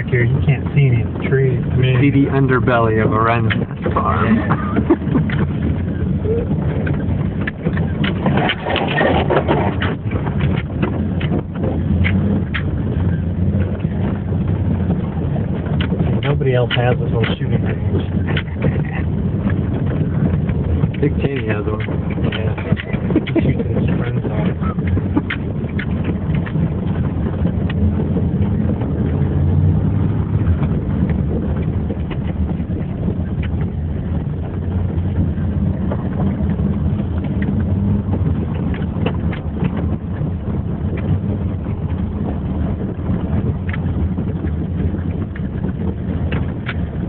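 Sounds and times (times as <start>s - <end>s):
short rattles and knocks: 0.0s - 47.0s
vehicle engine running: 0.0s - 47.0s.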